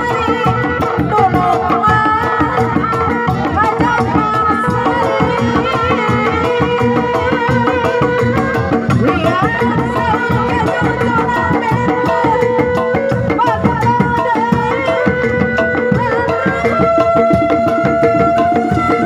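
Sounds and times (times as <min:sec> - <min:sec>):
hand drums beating fast rhythm: 0:00.0 - 0:19.0
wavering melody line: 0:00.0 - 0:19.0.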